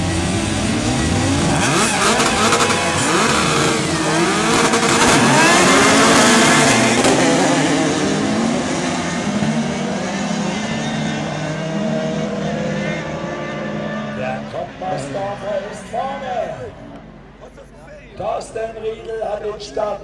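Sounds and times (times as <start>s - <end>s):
buggy engines revving: 0.0s - 20.0s.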